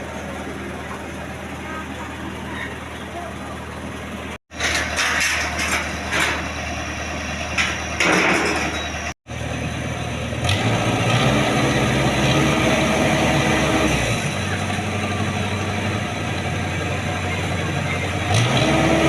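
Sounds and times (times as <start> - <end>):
combine harvester diesel engine: 0.0 - 19.0.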